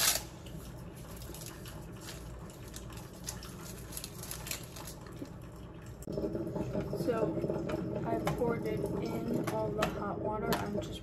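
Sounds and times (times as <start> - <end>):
liquid dripping: 0.3 - 11.0.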